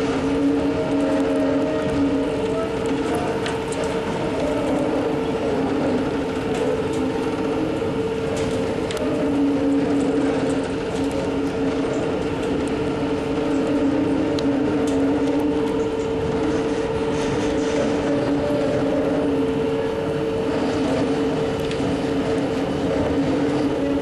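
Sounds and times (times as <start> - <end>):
heavy mining machinery humming: 0.0 - 24.0.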